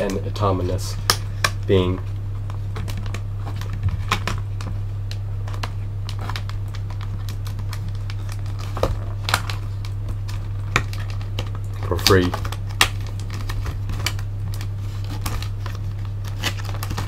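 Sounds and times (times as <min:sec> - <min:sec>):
plastic packaging crackling: 0:00.0 - 0:17.0
steady low hum: 0:00.0 - 0:17.0.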